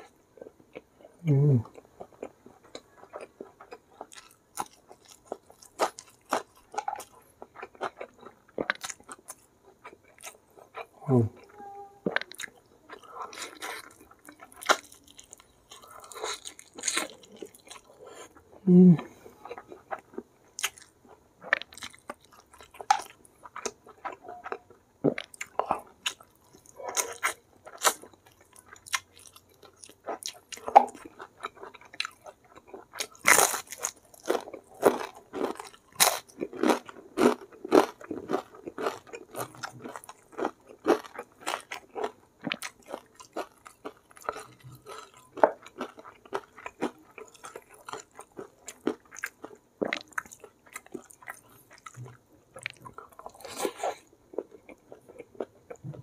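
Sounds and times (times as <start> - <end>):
soft wet chewing: 0.0 - 56.0
loud crunchy chewing: 1.6 - 11.4, 12.0 - 18.5, 19.4 - 56.0.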